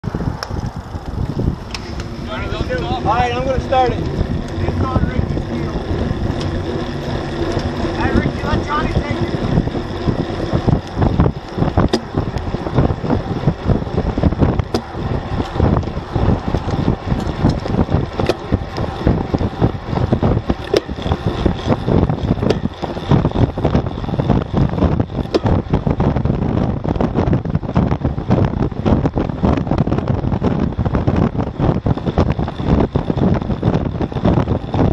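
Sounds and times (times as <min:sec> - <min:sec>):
road and tyre noise: 0:00.0 - 0:34.9
wind buffeting microphone: 0:00.0 - 0:34.9.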